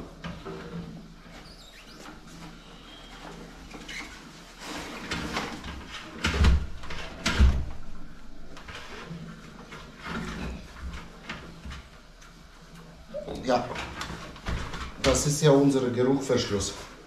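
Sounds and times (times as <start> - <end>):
rustling of things handled: 0.0 - 17.0.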